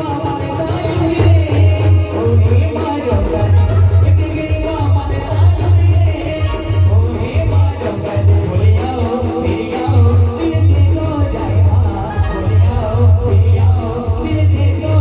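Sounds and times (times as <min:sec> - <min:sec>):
band playing a melody: 0:00.0 - 0:15.0
heavy bass drum beat: 0:00.0 - 0:15.0.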